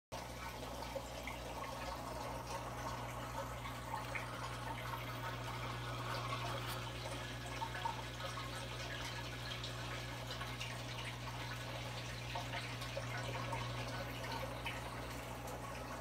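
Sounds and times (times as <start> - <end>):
water trickling and bubbling: 0.1 - 16.0
filter hum: 0.2 - 16.0.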